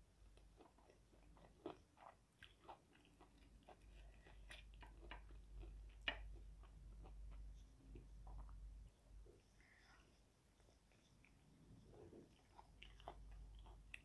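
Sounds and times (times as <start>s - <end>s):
person chewing fried chicken: 0.0s - 9.8s, 10.8s - 14.0s.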